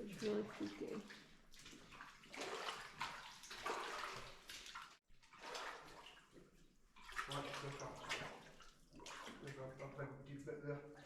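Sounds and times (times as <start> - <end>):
footsteps splashing through water: 0.0 - 10.0.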